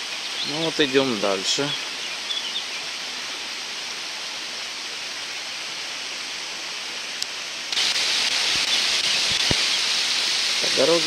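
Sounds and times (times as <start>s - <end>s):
mountain river rushing: 0.0s - 11.0s.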